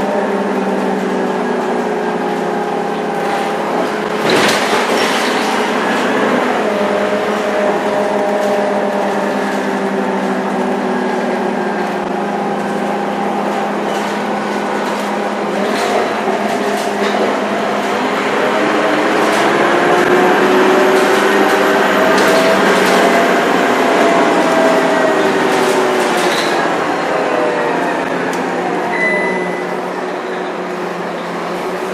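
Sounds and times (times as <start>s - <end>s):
bus engine accelerating: 0.0s - 31.9s.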